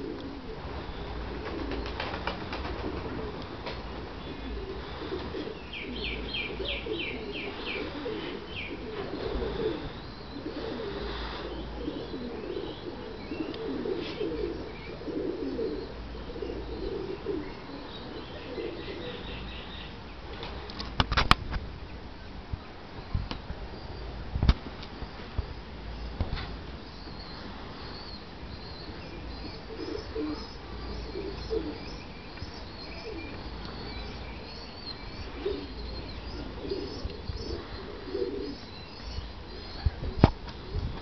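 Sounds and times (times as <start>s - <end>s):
pigeons cooing: 0.0s - 20.7s, 26.8s - 41.0s.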